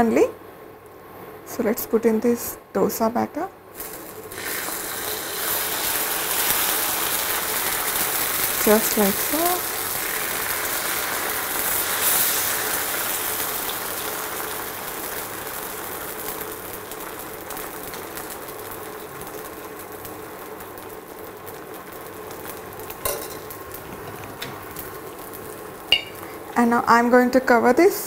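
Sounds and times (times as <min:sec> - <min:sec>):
batter sizzling in hot oil: 0:03.7 - 0:26.5.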